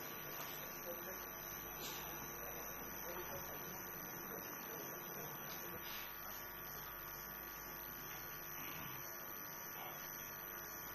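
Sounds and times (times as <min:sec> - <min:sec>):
electrical hum: 0:00.0 - 0:10.9.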